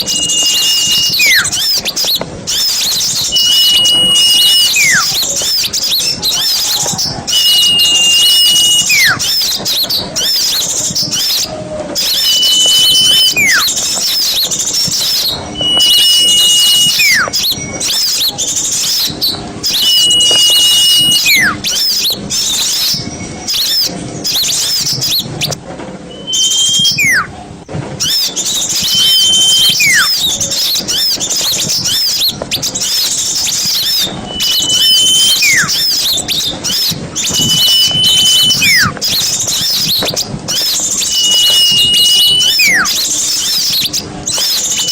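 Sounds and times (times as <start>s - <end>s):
songbird whistle and twittering: 0.0s - 27.4s, 28.0s - 44.9s.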